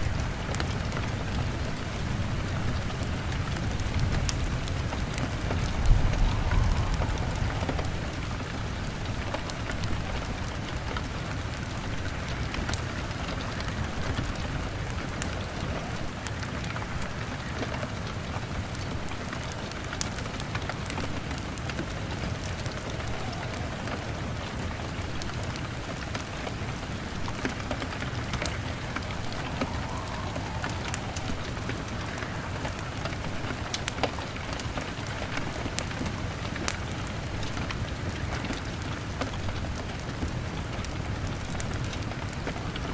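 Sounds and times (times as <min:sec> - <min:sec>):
log fire crackling: 0:00.0 - 0:42.9
rain pattering on window: 0:00.0 - 0:42.9.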